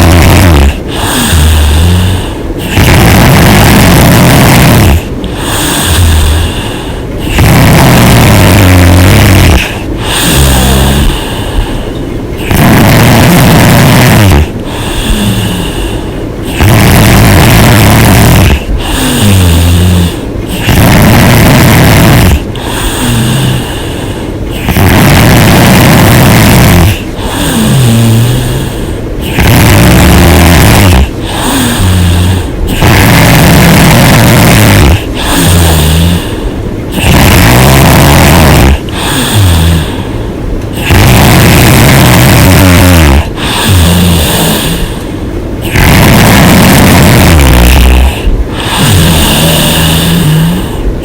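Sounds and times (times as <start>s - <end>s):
woman snoring loudly: 0.0s - 11.8s, 12.4s - 40.2s, 40.8s - 45.0s, 45.6s - 50.8s.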